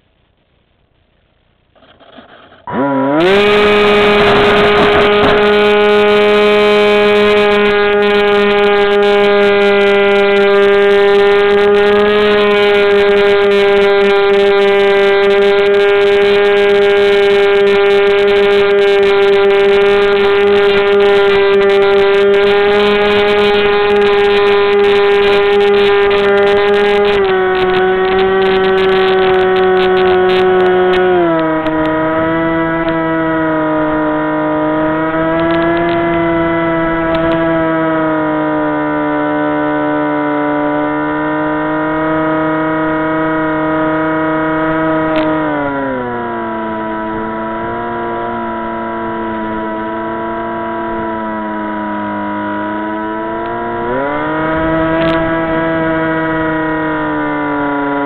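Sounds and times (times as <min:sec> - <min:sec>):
model airplane motor whining: 0:01.8 - 0:41.1, 0:43.2 - 0:58.0.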